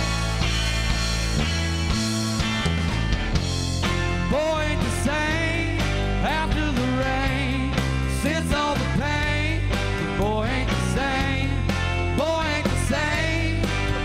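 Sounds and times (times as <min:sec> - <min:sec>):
country-rock band playing: 0:00.0 - 0:14.0.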